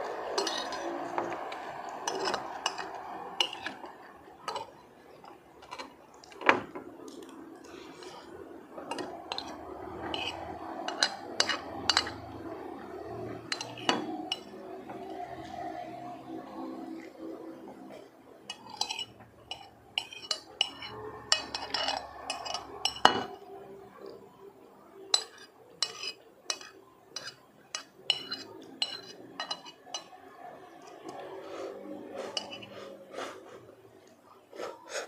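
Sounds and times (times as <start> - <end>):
metal spoon scraping a plate: 0.0 - 6.6, 7.7 - 17.1, 18.4 - 23.5, 25.1 - 30.3, 31.0 - 33.0.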